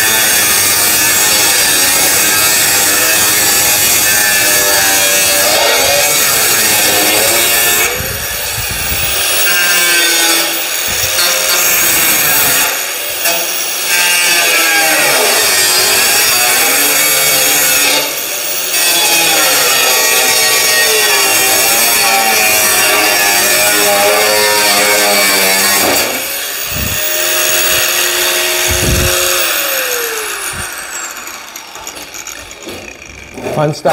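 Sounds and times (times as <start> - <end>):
angle grinder grinding metal: 0.0 - 33.9.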